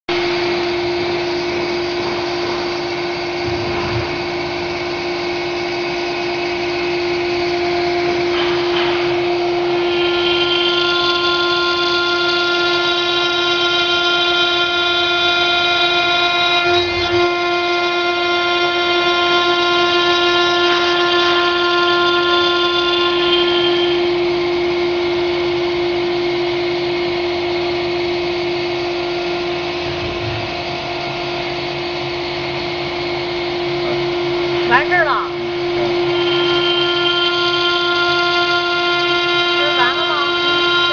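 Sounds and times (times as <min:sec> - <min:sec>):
high shrill tones: 0:00.1 - 0:40.9
stone engraving router whining: 0:00.1 - 0:40.9.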